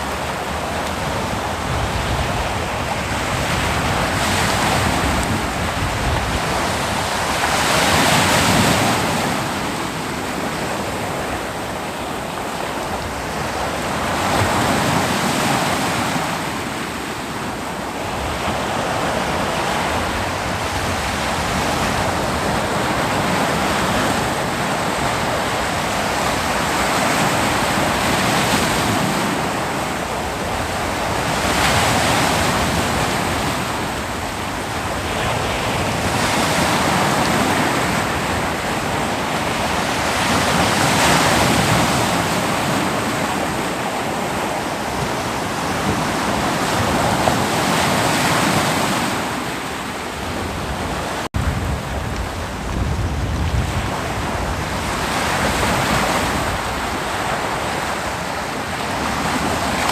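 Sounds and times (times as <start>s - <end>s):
ocean waves breaking on beach: 0.0s - 59.9s
wind on microphone: 0.0s - 59.9s.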